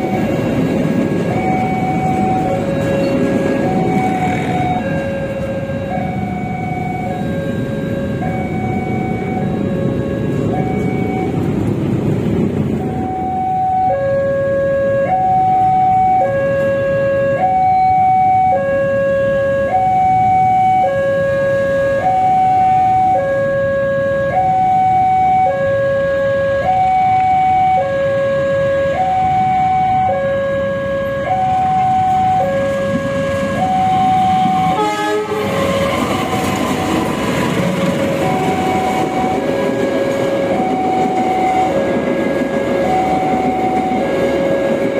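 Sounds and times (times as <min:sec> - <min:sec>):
train rumbling past: 0:00.0 - 0:17.3, 0:18.2 - 0:24.9, 0:25.7 - 0:44.9
approaching train noise: 0:00.0 - 0:44.9.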